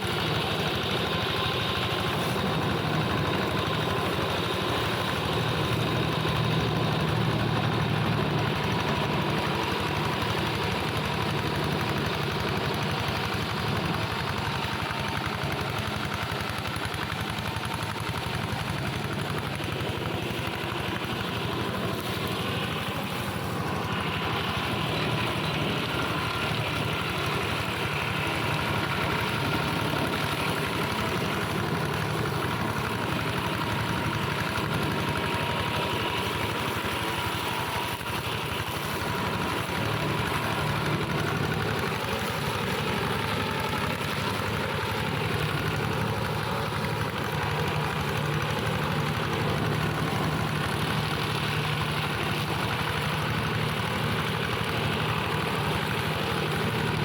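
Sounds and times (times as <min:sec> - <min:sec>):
hand tractor engine running: 0:00.0 - 0:57.0.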